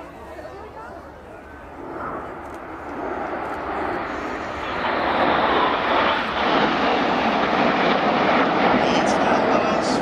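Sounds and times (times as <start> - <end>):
jet engines roaring overhead: 0.0 - 10.0.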